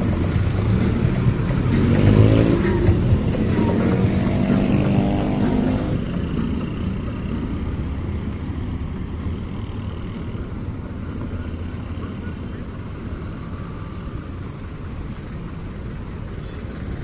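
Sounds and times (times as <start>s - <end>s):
vehicle driving past: 0.0s - 15.5s.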